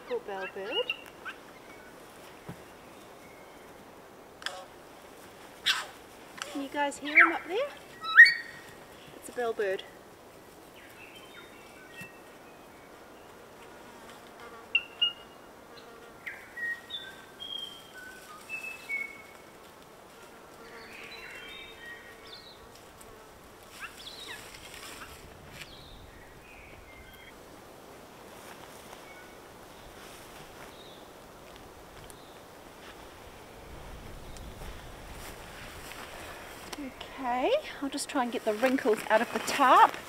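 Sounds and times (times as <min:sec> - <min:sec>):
faint high hiss: 0:00.0 - 0:40.0.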